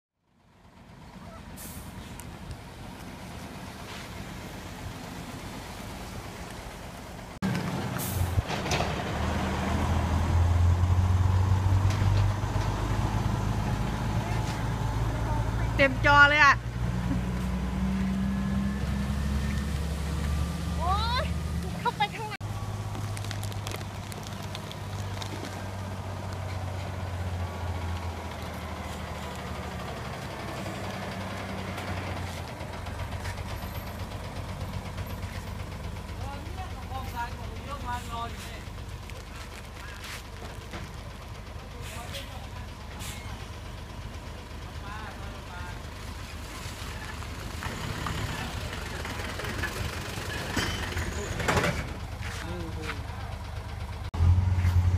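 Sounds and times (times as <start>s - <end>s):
diesel truck engine running: 0.3s - 54.9s.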